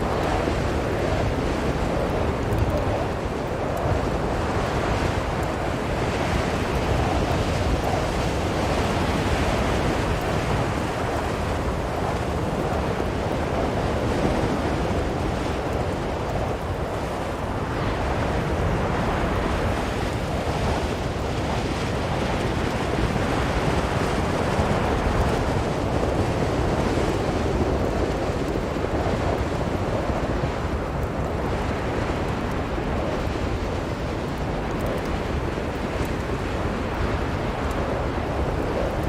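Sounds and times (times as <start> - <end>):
blizzard wind roaring: 0.0 - 39.0.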